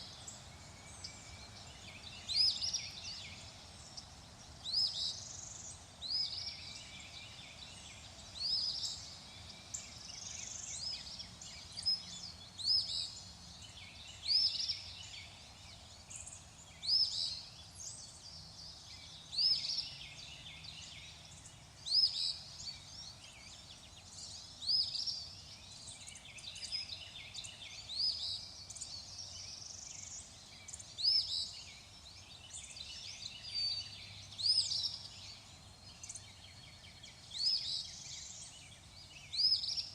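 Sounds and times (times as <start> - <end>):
faint bird chatter: 0.0 - 39.9
steady background hiss: 0.0 - 39.9.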